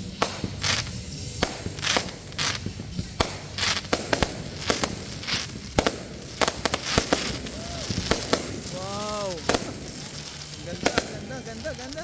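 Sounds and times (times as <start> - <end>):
fireworks bangs and pops: 0.0 - 12.0
regular swishing hiss: 0.0 - 12.0.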